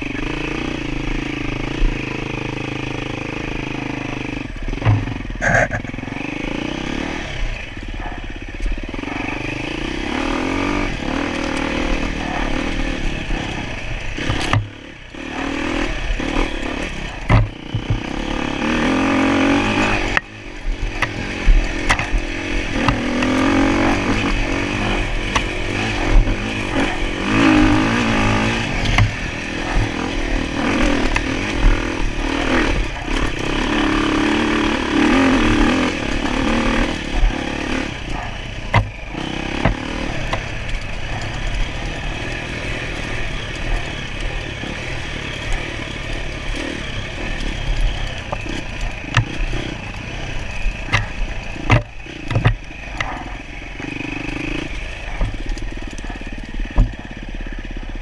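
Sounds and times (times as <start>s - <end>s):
motorcycle engine revving: 0.0s - 58.0s
sharp knocks and clatter: 4.7s - 6.0s, 11.0s - 57.3s.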